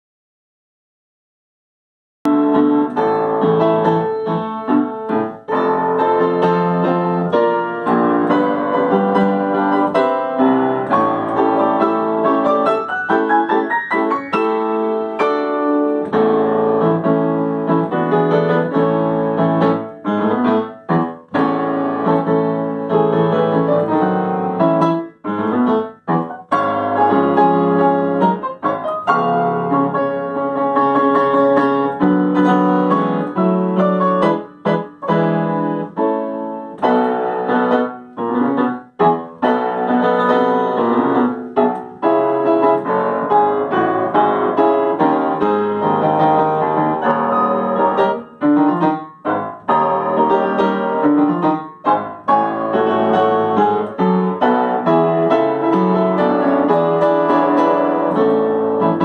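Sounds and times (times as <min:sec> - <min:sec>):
upright piano playing solo: 0:02.2 - 0:59.0.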